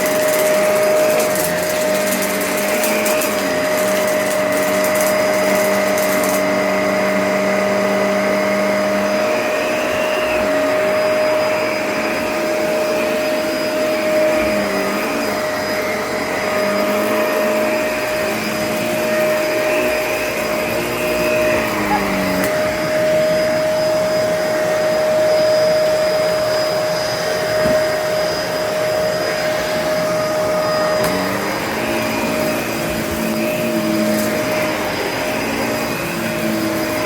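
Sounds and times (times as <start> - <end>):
vacuum cleaner whine: 0.0 - 37.0.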